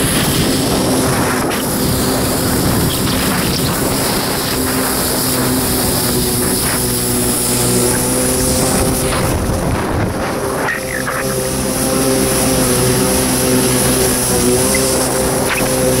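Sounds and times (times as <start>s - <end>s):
jet ski engine running: 0.0s - 16.0s
water rushing past hull: 0.0s - 16.0s.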